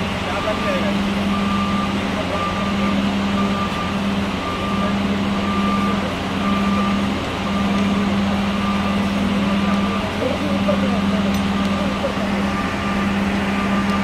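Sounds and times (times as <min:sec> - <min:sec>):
reversing alarm beeping: 0:00.0 - 0:14.0.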